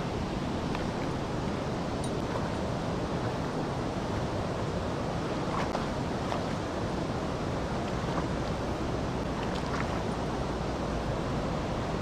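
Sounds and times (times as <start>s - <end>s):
river water rushing: 0.0s - 12.0s
wind on microphone: 0.0s - 12.0s.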